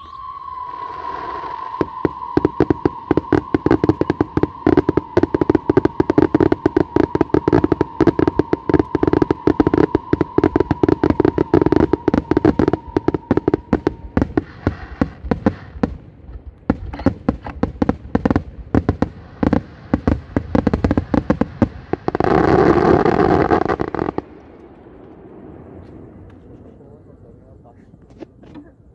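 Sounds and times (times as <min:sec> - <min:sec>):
high steady whistling: 0:00.0 - 0:16.0, 0:17.0 - 0:27.8
fireworks bangs: 0:00.0 - 0:28.7.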